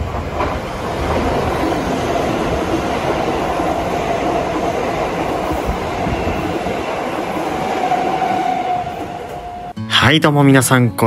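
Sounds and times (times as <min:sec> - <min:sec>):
train wheels rumbling on rails: 0:00.0 - 0:09.7.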